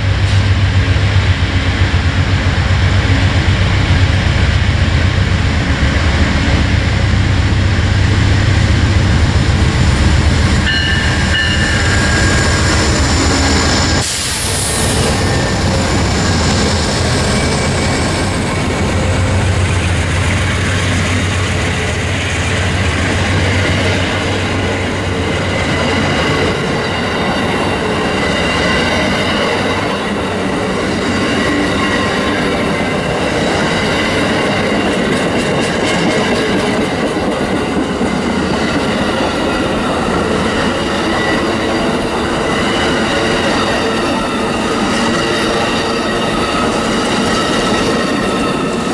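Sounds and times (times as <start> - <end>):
locomotive engine: 0.0 - 48.9
train wheels on rails: 0.0 - 48.9.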